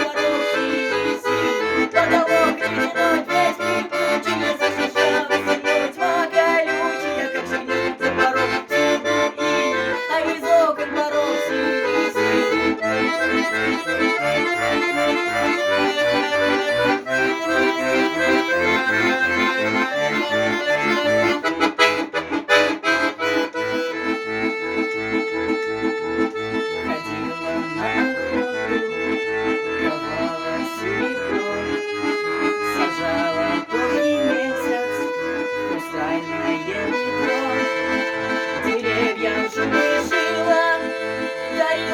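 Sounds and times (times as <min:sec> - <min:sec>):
accordion playing: 0:00.0 - 0:41.9.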